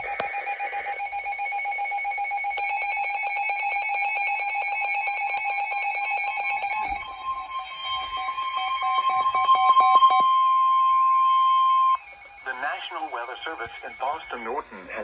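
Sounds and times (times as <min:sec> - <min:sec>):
steady alarm tone: 0:00.0 - 0:15.0
weather radio alarm beeping: 0:00.0 - 0:15.0.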